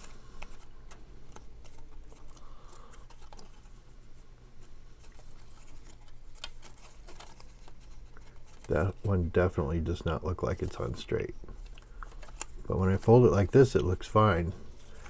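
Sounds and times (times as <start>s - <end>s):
cardstock being handled: 0.0s - 3.7s, 4.6s - 15.0s.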